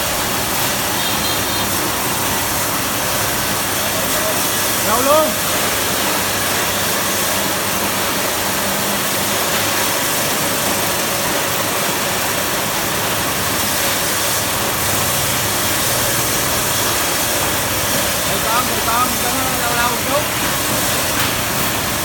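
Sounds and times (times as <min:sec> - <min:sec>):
machine running loudly: 0:00.0 - 0:22.0.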